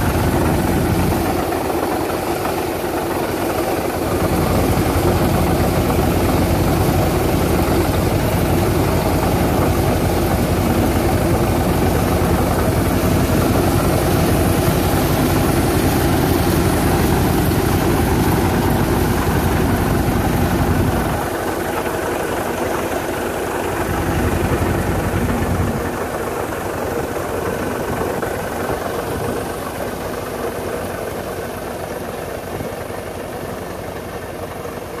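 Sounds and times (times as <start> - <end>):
crop sprayer engine and blower: 0.0 - 35.0.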